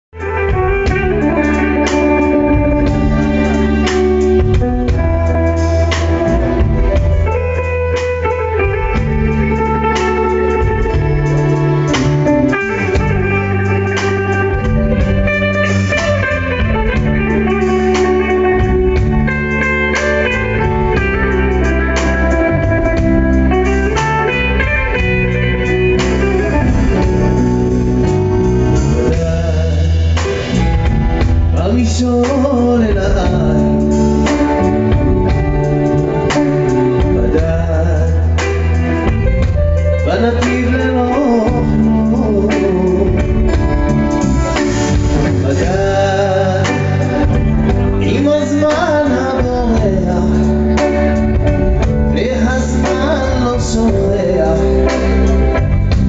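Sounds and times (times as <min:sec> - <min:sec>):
pop band instrumental: 0:00.0 - 0:56.0
strong low bass line: 0:00.0 - 0:56.0.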